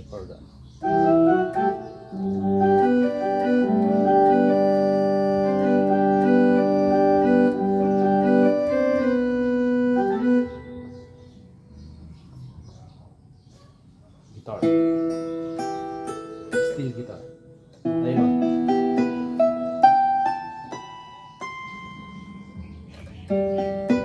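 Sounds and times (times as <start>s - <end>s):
electronic organ chords: 0.0s - 13.0s, 14.3s - 24.0s.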